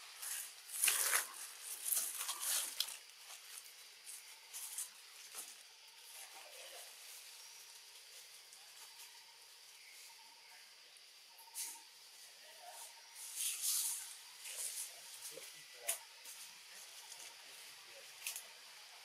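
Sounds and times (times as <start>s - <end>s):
rustling in foliage: 0.0s - 10.2s, 11.5s - 19.0s.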